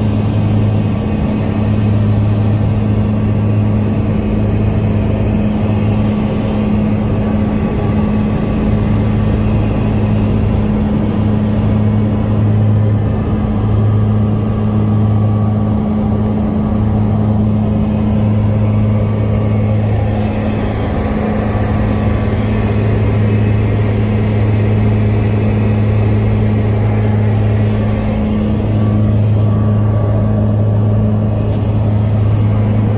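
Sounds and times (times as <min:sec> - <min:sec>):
aircraft engines droning: 0:00.0 - 0:32.9.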